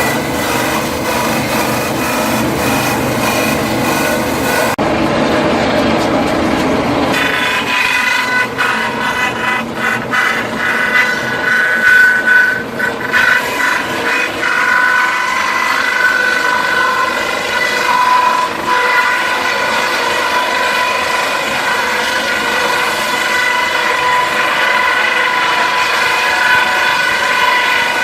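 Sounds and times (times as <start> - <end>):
wood crusher whining: 0.0 - 28.0.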